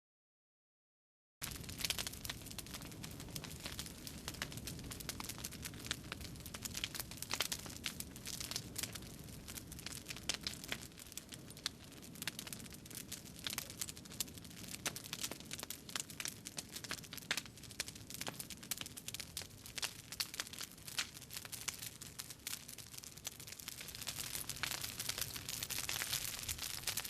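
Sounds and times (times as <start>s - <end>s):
crackling and crinkling clicks: 1.4s - 27.0s.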